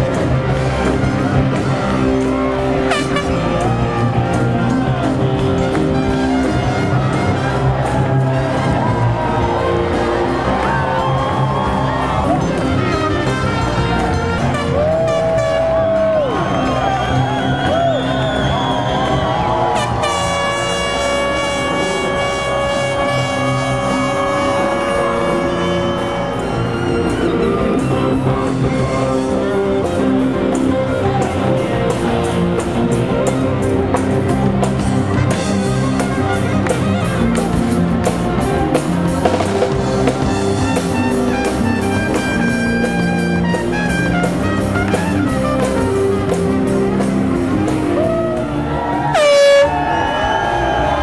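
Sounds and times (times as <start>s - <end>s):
saxophone: 0.0s - 32.0s, 32.8s - 50.8s
drum kit beat: 0.0s - 49.9s
live band playing upbeat song: 0.0s - 49.9s.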